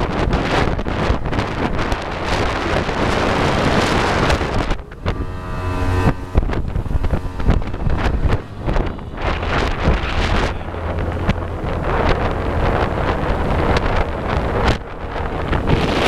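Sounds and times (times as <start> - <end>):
boat engine drone: 0.0 - 16.0
wind buffeting microphone: 0.0 - 16.0.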